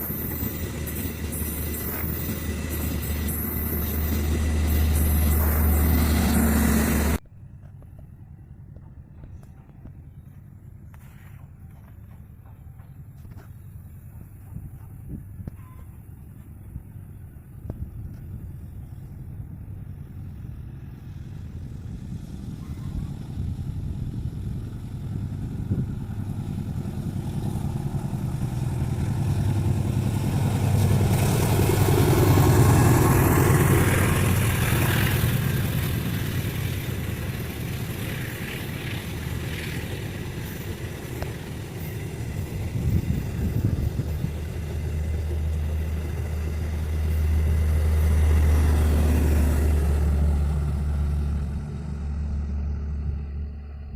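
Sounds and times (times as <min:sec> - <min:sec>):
diesel train passing: 0:00.0 - 0:53.9.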